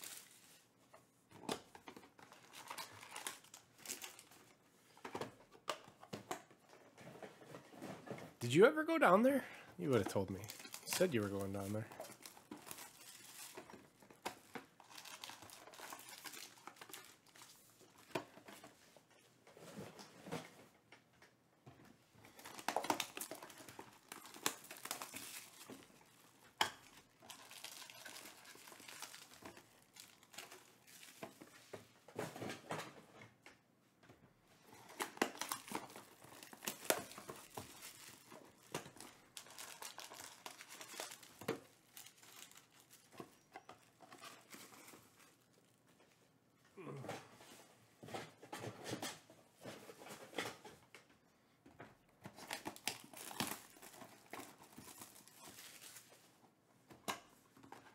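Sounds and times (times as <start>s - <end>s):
plastic and foil wrapping crinkling: 0.0s - 20.1s, 22.2s - 32.8s, 34.6s - 46.6s, 52.2s - 57.9s.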